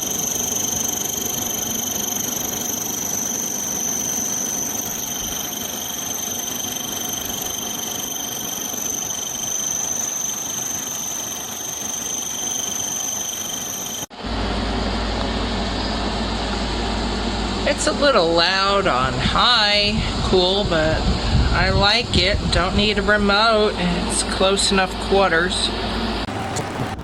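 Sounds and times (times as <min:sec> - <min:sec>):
air conditioner running: 0:00.0 - 0:27.0.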